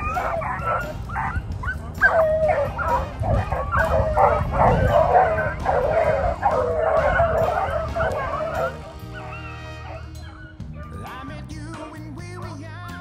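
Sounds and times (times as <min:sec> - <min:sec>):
hounds baying and yelping: 0:00.0 - 0:11.2.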